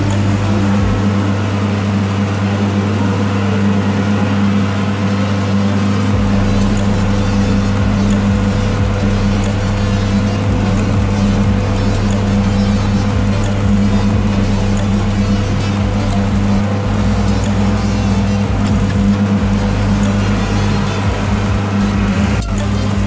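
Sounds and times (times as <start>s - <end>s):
boat engine low drone: 0.0s - 23.0s.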